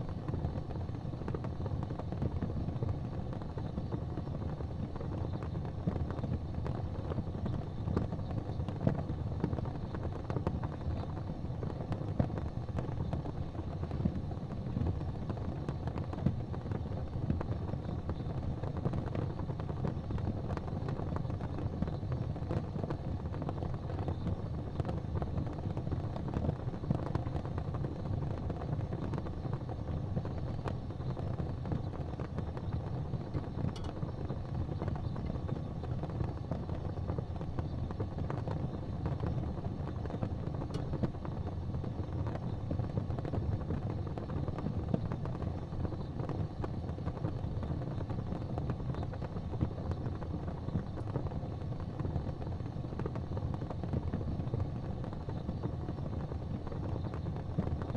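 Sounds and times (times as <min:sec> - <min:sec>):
sharp fire pops: 0:00.0 - 0:57.9
wood fire crackling: 0:00.0 - 0:57.9.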